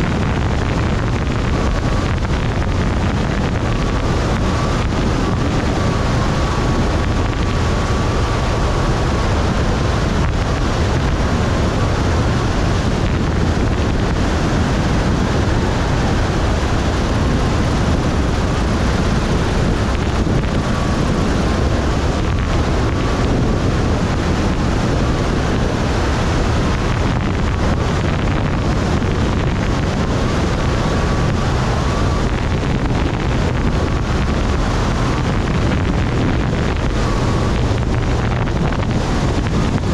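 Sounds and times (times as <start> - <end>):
propeller plane engine: 0.0 - 39.9
wind rush on microphone: 0.0 - 39.9.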